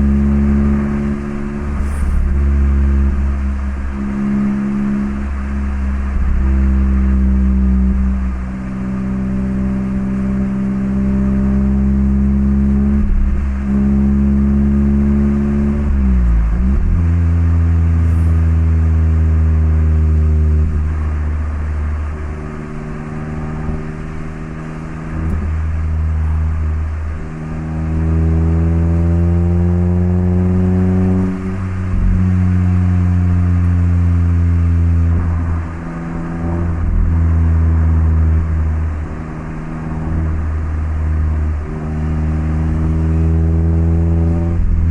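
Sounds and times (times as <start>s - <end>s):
car engine revving through gears: 0.0s - 44.9s.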